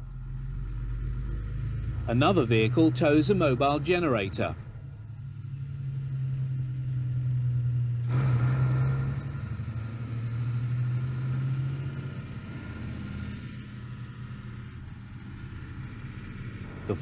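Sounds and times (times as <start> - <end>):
heavy trucks driving past: 0.0 - 17.0.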